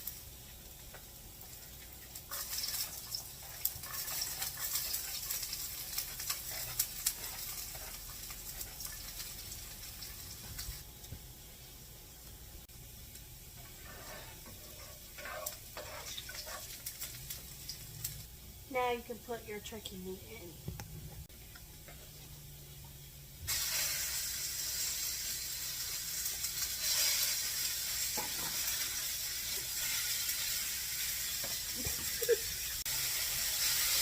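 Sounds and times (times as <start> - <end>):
onions sizzling in hot oil: 0.0 - 20.4, 21.3 - 34.0.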